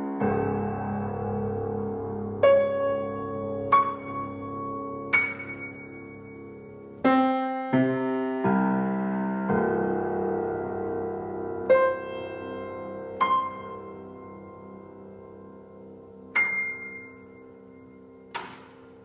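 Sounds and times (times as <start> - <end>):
grand piano played slowly: 0.0 - 19.0.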